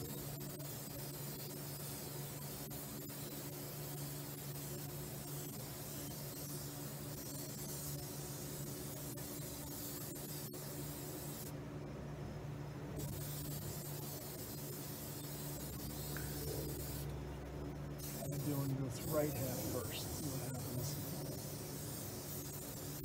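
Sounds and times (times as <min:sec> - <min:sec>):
aerosol spray can hissing: 0:00.0 - 0:11.4, 0:13.1 - 0:17.0, 0:18.0 - 0:23.0.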